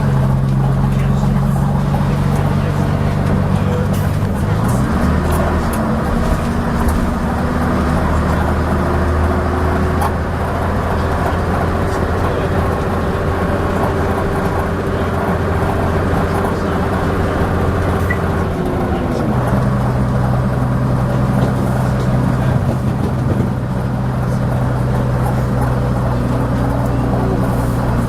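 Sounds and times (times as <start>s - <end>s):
bus diesel engine: 0.0s - 28.0s
clanks and rattles: 0.0s - 28.0s.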